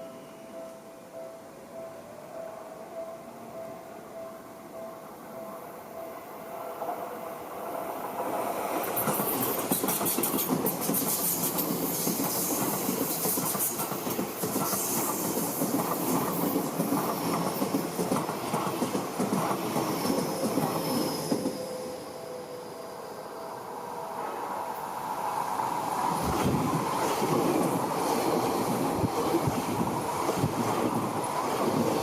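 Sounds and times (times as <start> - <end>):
electric train passing: 0.0 - 32.0.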